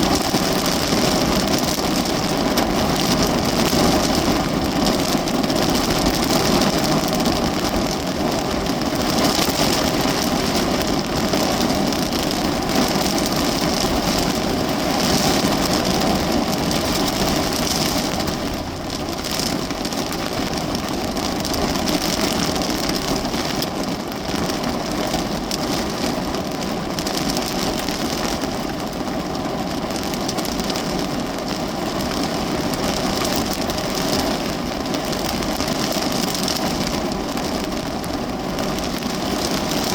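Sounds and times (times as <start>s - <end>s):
heavy rain drumming on car roof: 0.0s - 39.9s.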